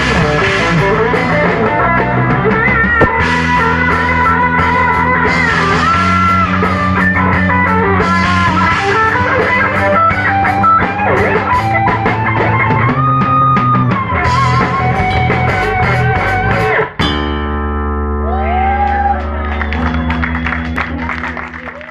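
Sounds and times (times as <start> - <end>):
drum kit: 0.0 - 21.9
electric guitar: 0.0 - 21.9.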